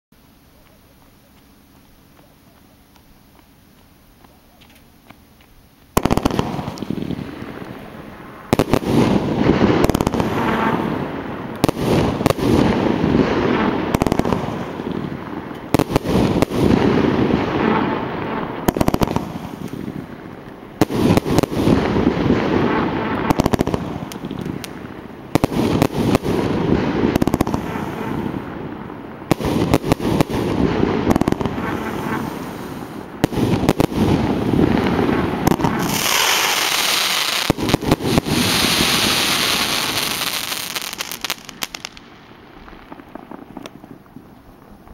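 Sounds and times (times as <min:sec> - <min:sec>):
fireworks hiss and crackle: 0:00.2 - 0:44.9
fireworks bangs: 0:05.9 - 0:44.9.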